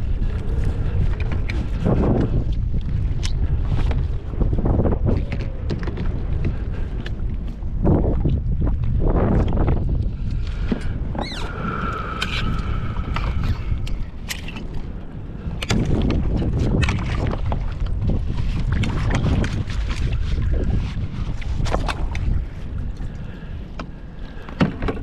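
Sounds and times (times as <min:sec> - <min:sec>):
water splashing around kayak: 0:00.0 - 0:25.0
wind rumbling on microphone: 0:00.0 - 0:25.0.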